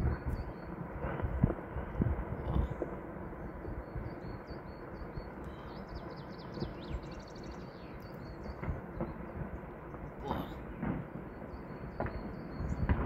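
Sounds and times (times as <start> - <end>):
small birds chirping: 2.0 - 13.0.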